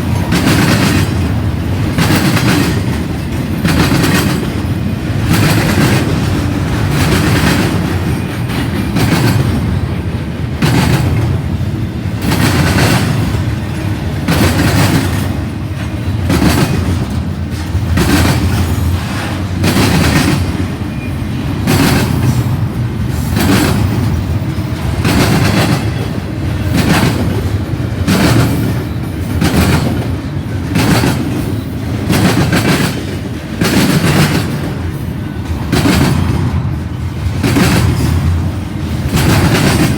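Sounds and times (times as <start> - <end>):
freight train rumbling by: 0.0 - 39.9
wheel clacks over rail joints: 0.0 - 39.9.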